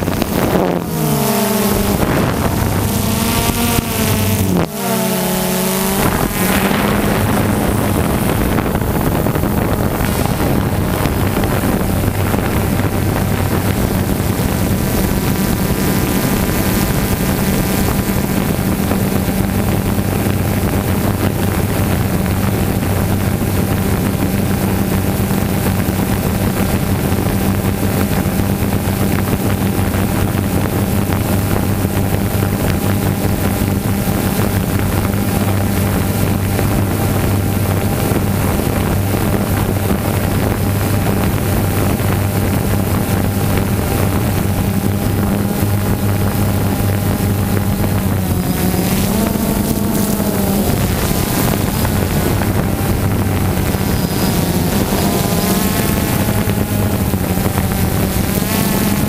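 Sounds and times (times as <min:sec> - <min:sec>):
drone propellers humming: 0:00.0 - 0:59.0
wind buffeting microphone: 0:00.0 - 0:59.0.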